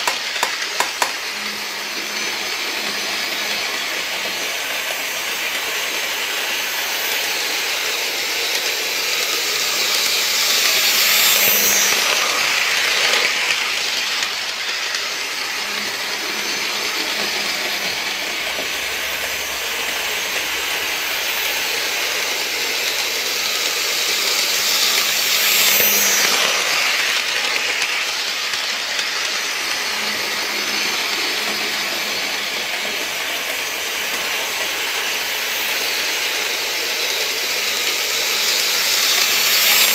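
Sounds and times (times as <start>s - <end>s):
model train whirring on track: 0.0s - 39.9s.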